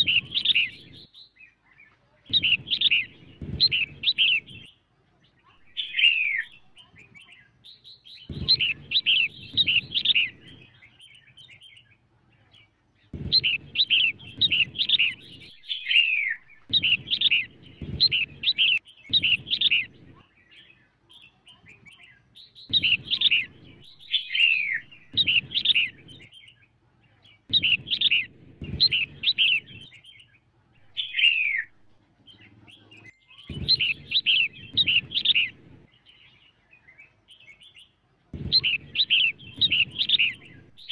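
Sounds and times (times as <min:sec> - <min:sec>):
bird chirping calls: 0:00.0 - 0:40.9.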